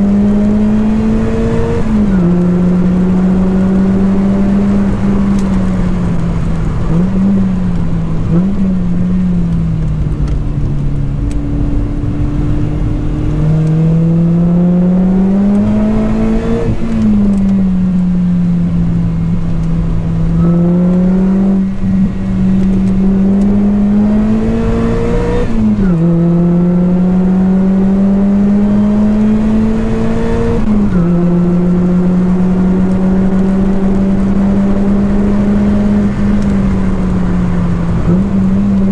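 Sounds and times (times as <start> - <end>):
car engine revving on track: 0.0 - 38.9.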